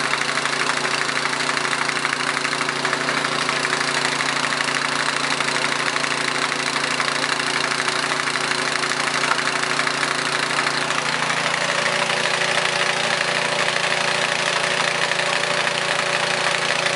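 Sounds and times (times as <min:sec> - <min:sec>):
snowblower engine running: 0:00.0 - 0:16.9.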